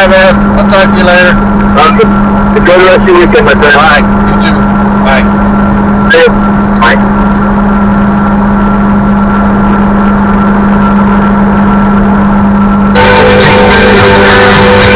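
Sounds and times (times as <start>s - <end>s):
car radio music: 0.0s - 12.2s, 12.8s - 14.9s
car engine and road noise: 0.0s - 14.9s.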